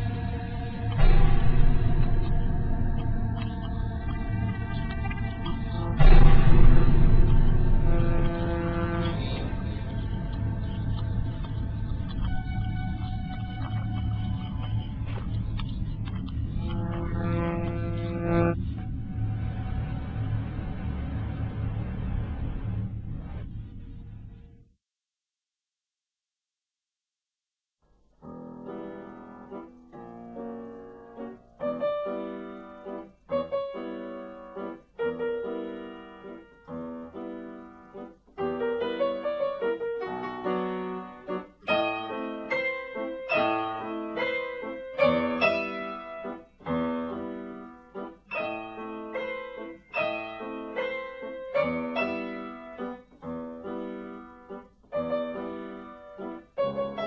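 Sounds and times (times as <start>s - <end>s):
piano chords: 0.0s - 24.6s, 28.2s - 57.0s.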